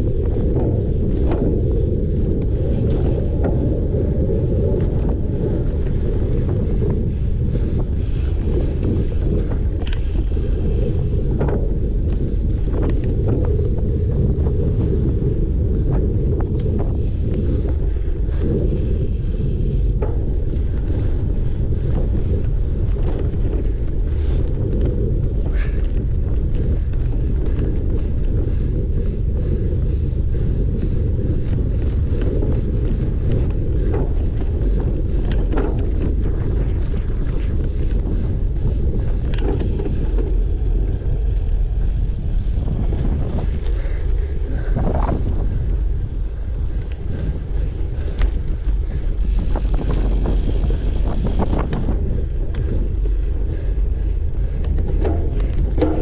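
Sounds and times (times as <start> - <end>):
bike riding rumble: 0.0 - 56.0
wind buffeting microphone: 0.0 - 56.0
bike clicks and knocks: 0.1 - 56.0.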